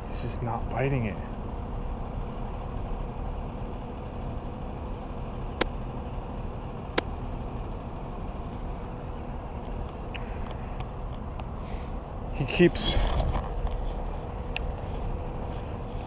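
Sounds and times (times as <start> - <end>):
faint steady hum: 0.0 - 16.0
low outdoor rumble: 0.0 - 16.0.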